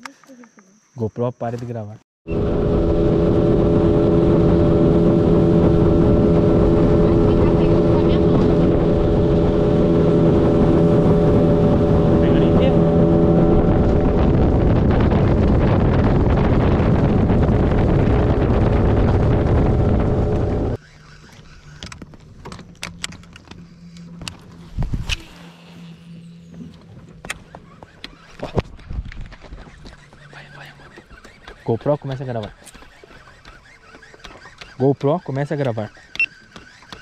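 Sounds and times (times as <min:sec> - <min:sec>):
wind: 0:00.0 - 0:37.0
outboard motor running: 0:02.3 - 0:37.0.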